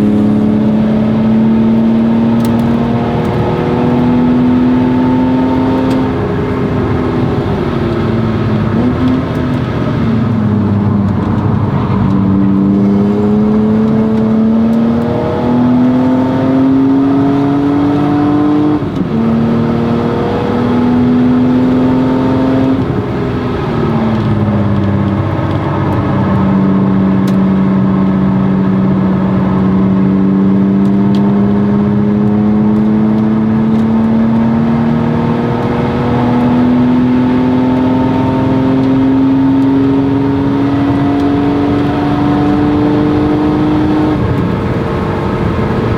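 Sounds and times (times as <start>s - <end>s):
car engine revving: 0.0s - 45.9s
gear changes: 0.0s - 45.9s.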